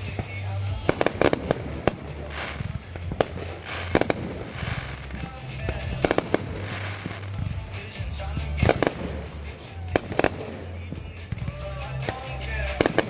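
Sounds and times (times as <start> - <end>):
fireworks bangs: 0.0 - 13.0
fireworks crackling and hiss: 0.0 - 13.0.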